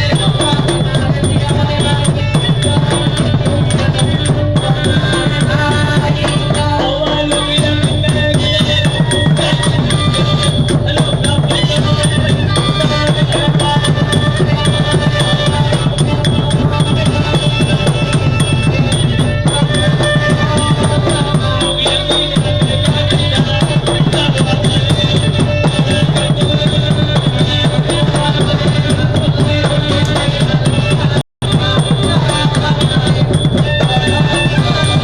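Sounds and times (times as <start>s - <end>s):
fast continuous drumming: 0.0s - 35.0s.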